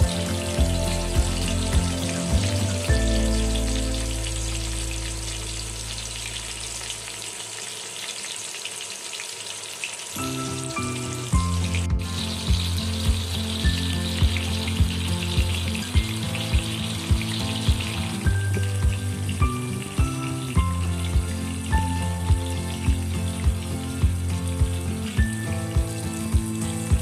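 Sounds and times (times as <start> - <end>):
background music with beat: 0.0 - 5.4, 10.2 - 27.0
fish sizzling in oil: 0.0 - 27.0.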